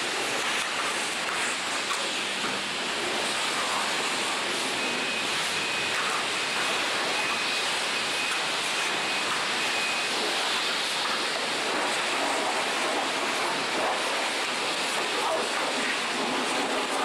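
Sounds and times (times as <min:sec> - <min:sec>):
faint high whine: 0:00.0 - 0:17.0
pressure-washer spray hissing: 0:00.0 - 0:17.0.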